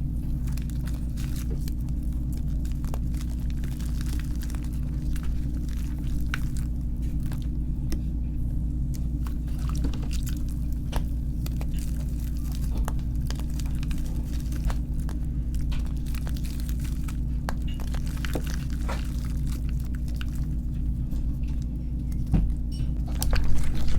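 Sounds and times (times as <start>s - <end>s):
chalk crunching and crackling: 0.0s - 8.1s, 8.9s - 22.2s
low hum: 0.0s - 23.9s.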